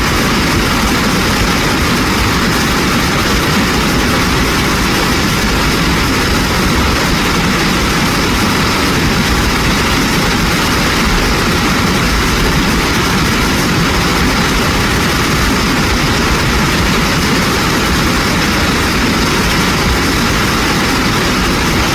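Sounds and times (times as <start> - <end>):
stream rushing over rocks: 0.0 - 21.9.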